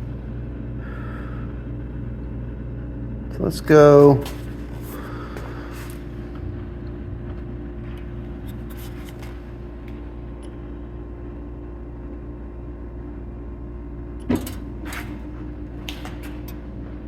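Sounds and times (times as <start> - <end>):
air compressor humming: 0.0 - 17.0.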